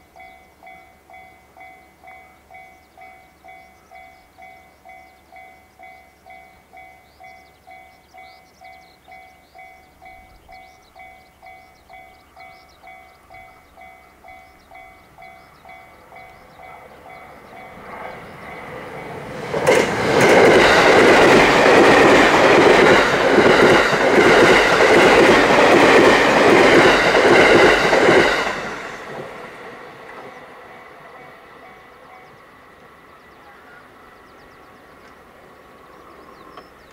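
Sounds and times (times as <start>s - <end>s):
train passing: 0.0s - 36.9s.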